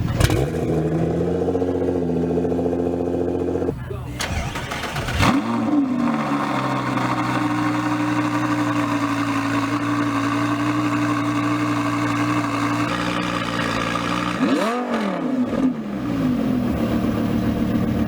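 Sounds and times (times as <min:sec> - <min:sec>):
car engine idling: 0:00.0 - 0:18.0
throttle rev: 0:00.0 - 0:18.0.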